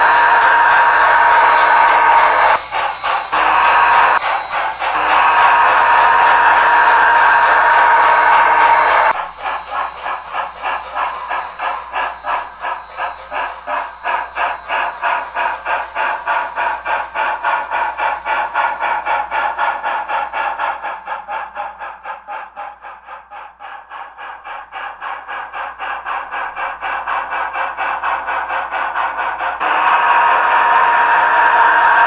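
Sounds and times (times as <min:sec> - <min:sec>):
steam locomotive chuffing: 0:00.0 - 0:32.0.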